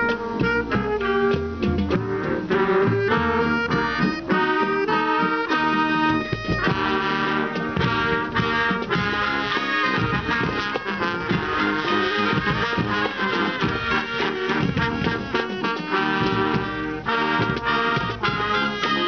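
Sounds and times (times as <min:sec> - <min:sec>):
drums: 0:00.0 - 0:19.0
marching band brass: 0:00.0 - 0:19.0.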